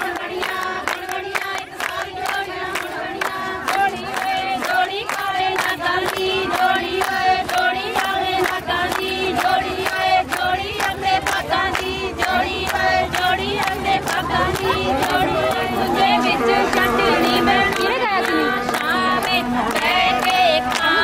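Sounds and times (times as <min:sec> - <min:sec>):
women singing in unison: 0:00.0 - 0:21.0.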